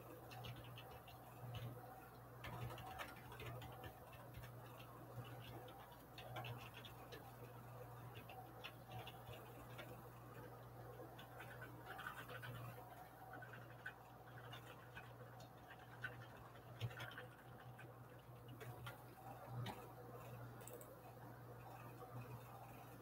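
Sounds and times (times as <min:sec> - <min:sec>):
faint clicks and ticks: 0:00.0 - 0:23.0
steady low hum: 0:00.0 - 0:23.0.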